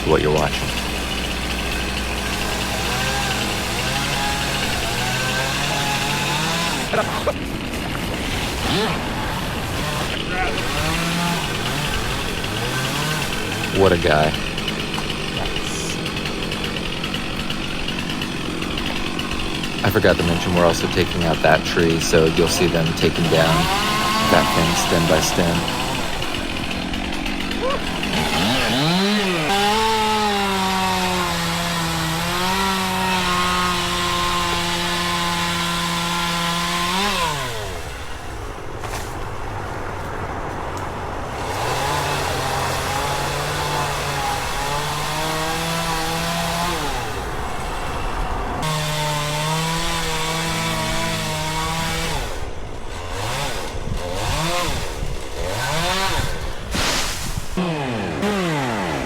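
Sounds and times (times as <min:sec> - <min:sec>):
chainsaw cutting wood: 0:00.0 - 0:40.0, 0:40.7 - 0:59.0.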